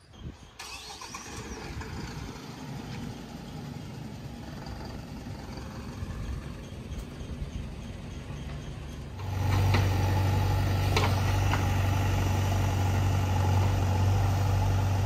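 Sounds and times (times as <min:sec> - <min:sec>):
diesel engine idling: 0:00.6 - 0:15.0.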